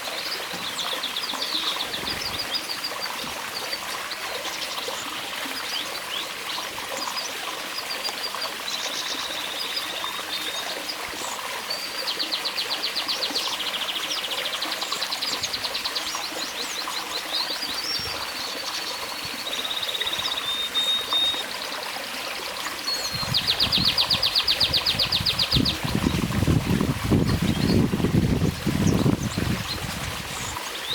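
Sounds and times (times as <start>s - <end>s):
running water trickling: 0.0s - 30.9s
canaries singing trills: 0.1s - 21.8s, 22.8s - 30.9s.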